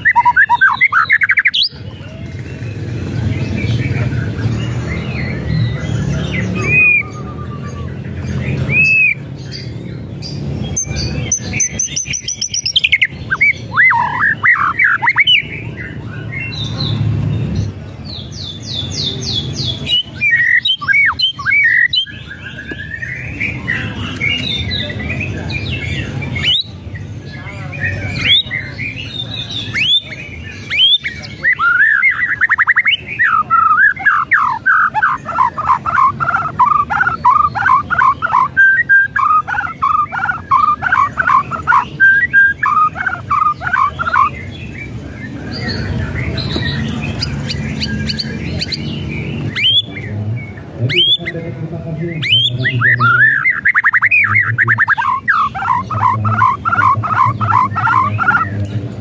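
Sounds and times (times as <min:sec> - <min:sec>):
songbird singing whistles and trills: 0:00.0 - 0:02.2, 0:04.9 - 0:09.7, 0:10.7 - 0:17.0, 0:18.4 - 0:26.8, 0:27.7 - 0:50.1, 0:52.2 - 0:58.5.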